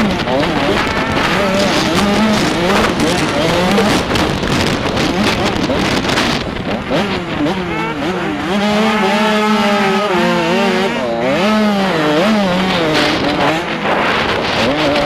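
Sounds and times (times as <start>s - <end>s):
motocross bike engine revving: 0.0s - 15.0s
rushing noise: 0.0s - 15.0s.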